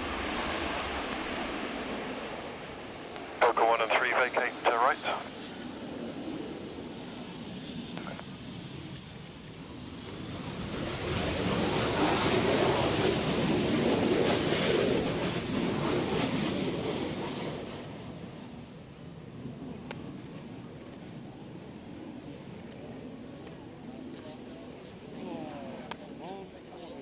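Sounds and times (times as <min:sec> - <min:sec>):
aircraft engine rushing past: 0:00.0 - 0:27.0
aircraft engine whine: 0:00.0 - 0:27.0.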